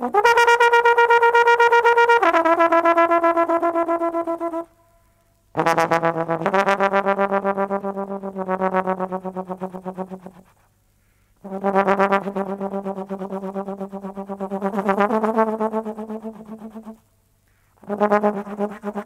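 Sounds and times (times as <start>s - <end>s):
trombone long held notes: 0.0s - 4.7s, 5.6s - 10.5s, 11.4s - 17.0s, 17.8s - 19.0s.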